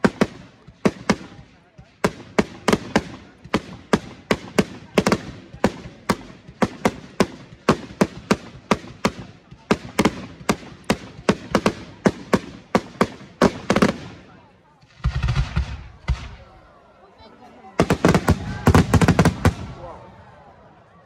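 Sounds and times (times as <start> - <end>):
fireworks bangs: 0.0 - 16.6, 17.8 - 20.1.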